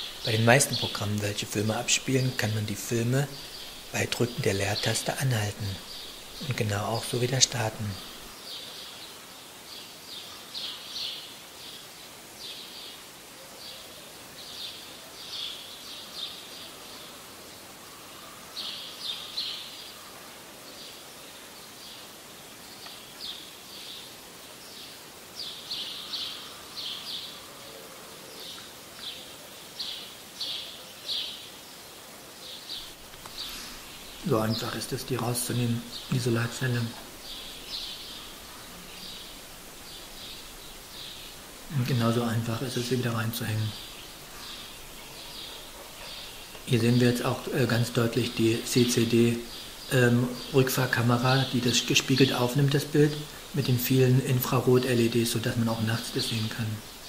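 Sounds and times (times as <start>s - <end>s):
outdoor background hiss: 0.0s - 57.0s
small birds chirping: 0.0s - 57.0s.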